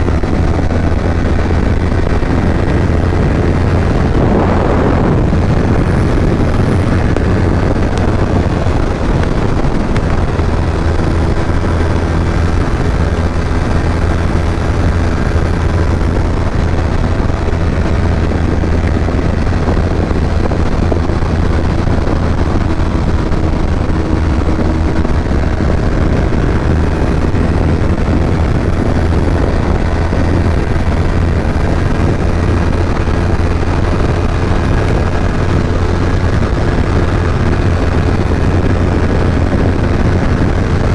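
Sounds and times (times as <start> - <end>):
motorcycle engine drone: 0.0 - 40.9.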